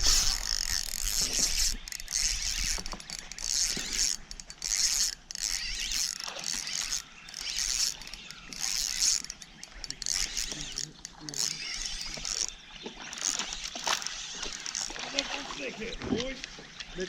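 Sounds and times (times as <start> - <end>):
fishing reel whirring and clicking: 0.0 - 15.9.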